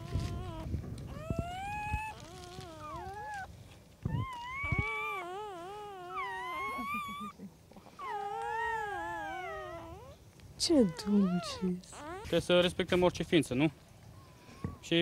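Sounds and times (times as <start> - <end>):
puppies whining and crying: 0.0 - 12.6.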